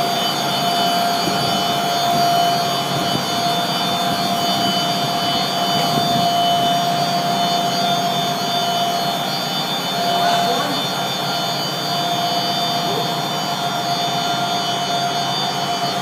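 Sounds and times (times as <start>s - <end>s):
concrete floor grinder running: 0.0s - 16.0s.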